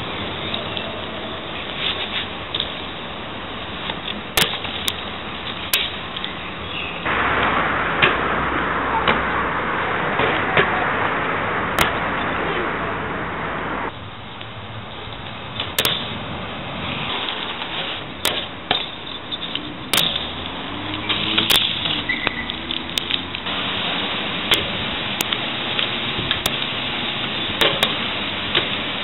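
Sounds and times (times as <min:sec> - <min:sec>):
bike tyres rolling on pavement: 0:00.0 - 0:29.0.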